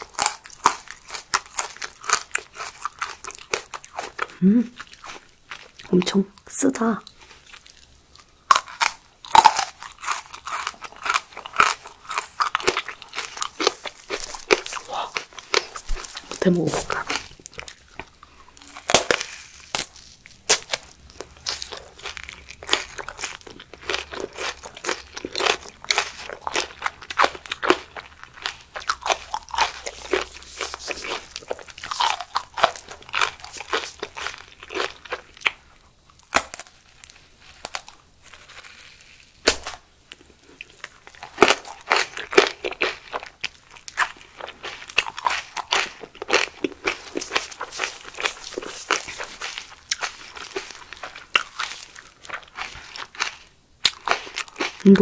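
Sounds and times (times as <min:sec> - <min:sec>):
crunchy chewing of leaf: 0:00.0 - 0:06.2, 0:06.8 - 0:55.0.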